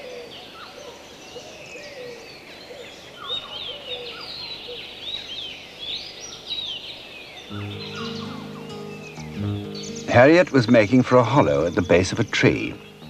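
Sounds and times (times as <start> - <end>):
birds whistling calls: 0.0 - 13.0
faint ambient hiss: 0.0 - 13.0.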